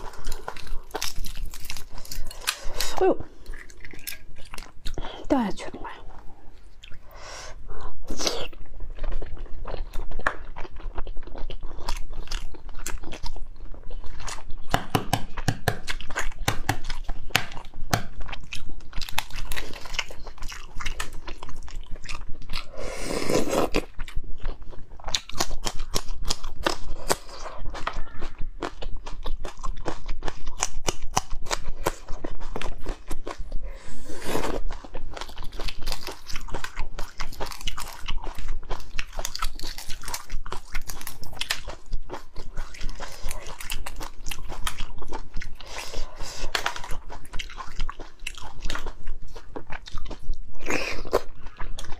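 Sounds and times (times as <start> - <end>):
close-miked chewing: 0.0 - 51.9.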